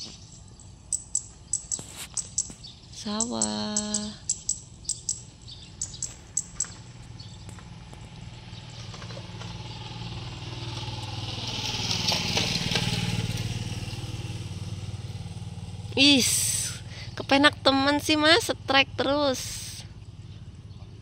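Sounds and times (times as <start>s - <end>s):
motorcycle passing: 0.0s - 21.0s.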